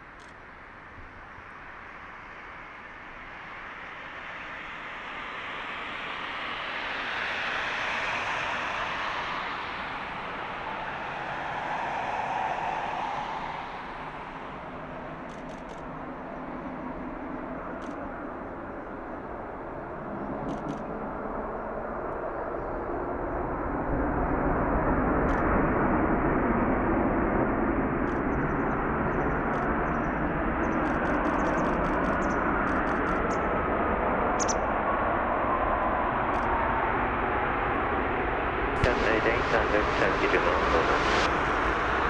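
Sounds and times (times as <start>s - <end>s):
jet engine whine: 0.0s - 42.0s
jet engines rushing: 0.0s - 42.0s.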